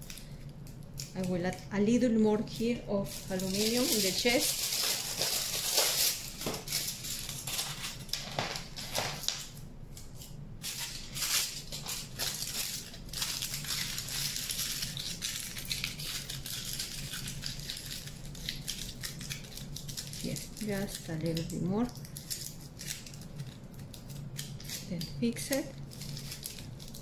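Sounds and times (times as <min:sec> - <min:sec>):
aluminium foil crinkling: 0:00.0 - 0:27.0.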